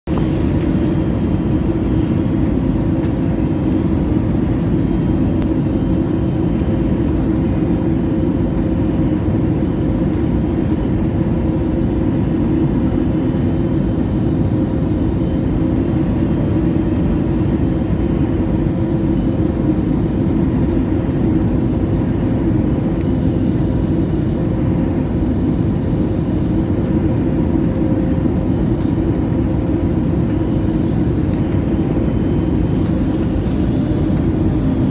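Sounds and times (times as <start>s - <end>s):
engine and airflow rush: 0.0s - 34.9s
low hum: 0.1s - 34.9s.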